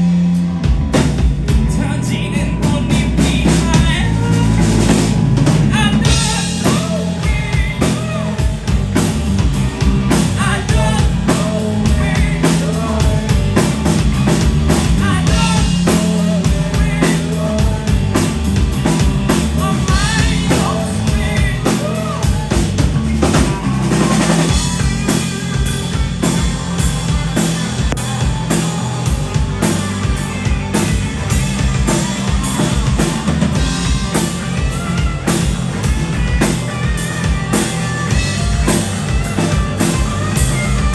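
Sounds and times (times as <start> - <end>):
drum kit beating: 0.0 - 40.9
live band playing: 0.0 - 40.9
person singing: 5.6 - 8.8, 10.1 - 13.8, 14.9 - 40.9.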